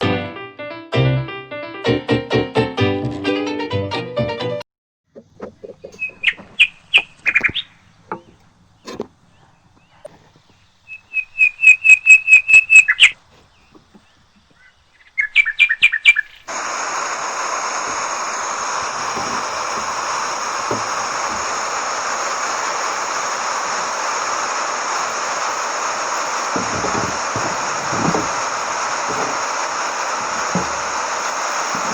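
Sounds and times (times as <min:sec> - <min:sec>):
small birds chirping: 0:05.3 - 0:31.9
water spraying hiss: 0:05.7 - 0:31.9.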